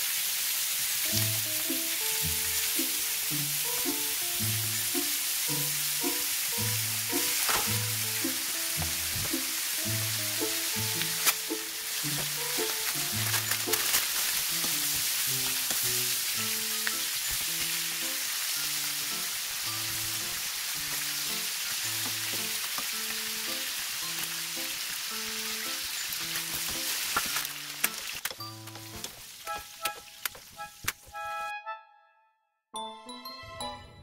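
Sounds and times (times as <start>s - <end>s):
meat sizzling in a frying pan: 0.0s - 28.3s.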